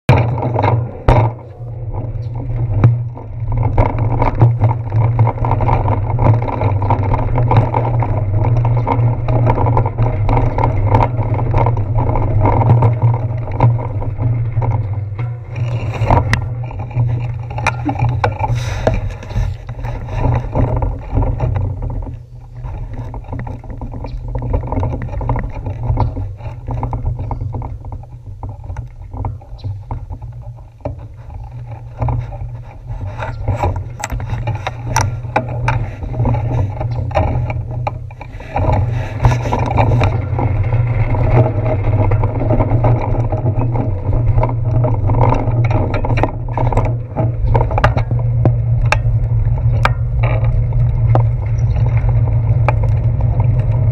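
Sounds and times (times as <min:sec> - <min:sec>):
bicycle rolling on wet pavement: 0:00.1 - 0:53.9
clicks and knocks: 0:00.1 - 0:53.9
wind rumble on microphone: 0:00.1 - 0:53.9.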